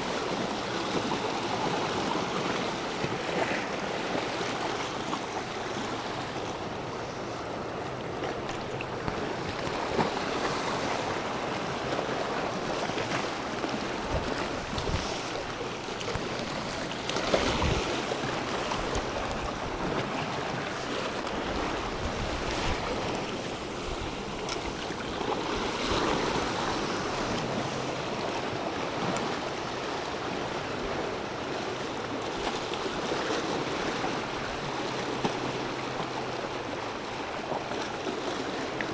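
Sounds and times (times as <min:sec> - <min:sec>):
waves washing over rocks: 0:00.0 - 0:38.9.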